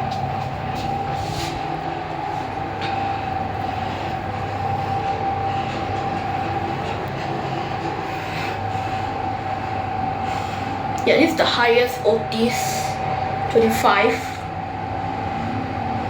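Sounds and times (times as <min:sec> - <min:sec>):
lift high whine: 0:00.0 - 0:16.0
lift rushing ride noise: 0:00.0 - 0:16.0
low hum: 0:00.0 - 0:16.0.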